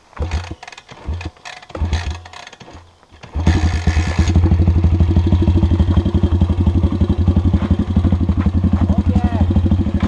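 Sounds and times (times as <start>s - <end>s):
motorbike engine revving: 0.2s - 2.6s, 3.2s - 10.0s.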